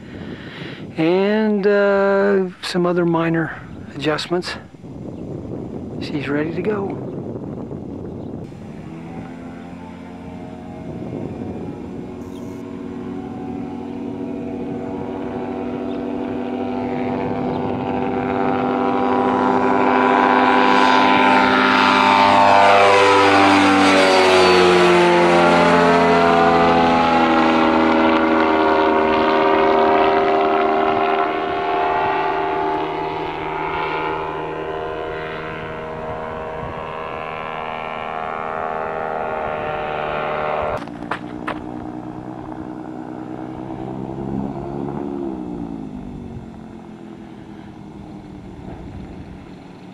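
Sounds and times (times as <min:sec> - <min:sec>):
ultralight plane engine flying over: 0:00.0 - 0:49.9.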